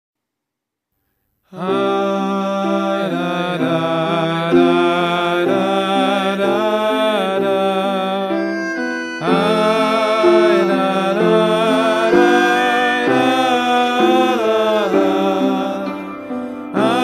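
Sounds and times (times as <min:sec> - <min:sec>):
slow prayer melody over chords: 0:01.6 - 0:17.0.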